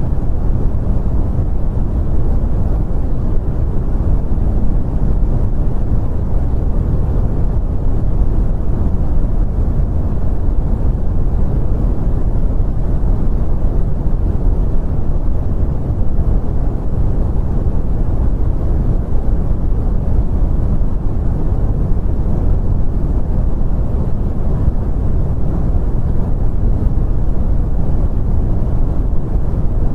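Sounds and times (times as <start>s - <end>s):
brown noise: 0.0s - 29.9s.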